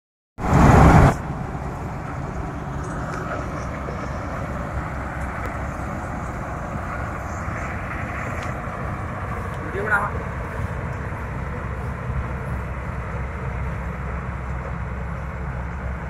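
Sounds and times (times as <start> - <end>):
combine harvester engine drone: 0.4 - 16.0
loud rush of noise: 0.4 - 16.0.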